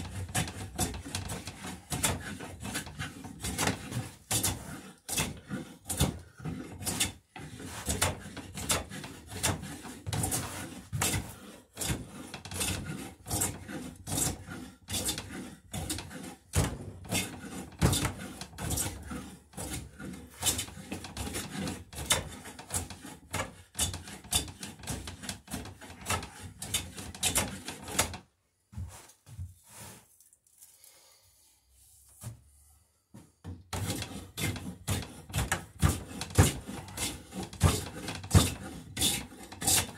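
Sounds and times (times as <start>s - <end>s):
hand plane shaving wood: 0.0s - 28.2s, 33.7s - 39.9s.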